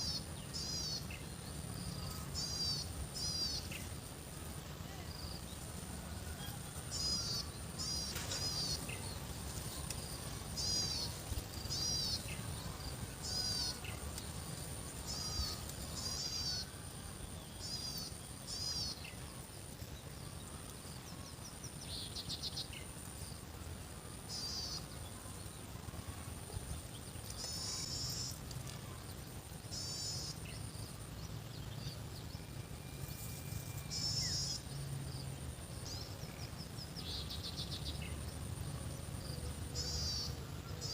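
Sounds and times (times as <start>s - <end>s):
insect drone: 0.0s - 40.9s.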